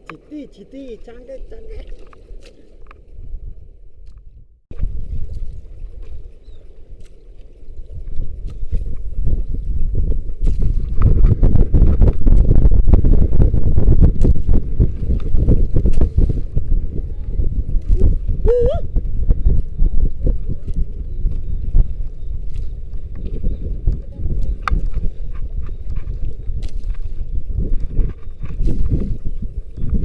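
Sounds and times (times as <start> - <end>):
boat hull and water noise: 0.0 - 30.0
wind rumbling on microphone: 0.0 - 30.0.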